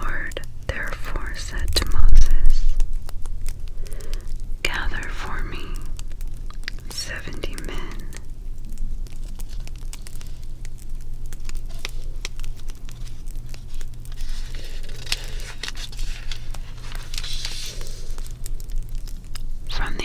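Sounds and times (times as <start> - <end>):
fire crackling and popping: 0.0 - 20.0
steady low hum: 0.0 - 20.0.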